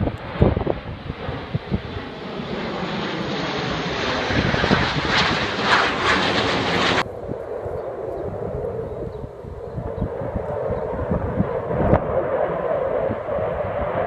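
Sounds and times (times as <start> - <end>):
jets roaring overhead: 0.0 - 14.0.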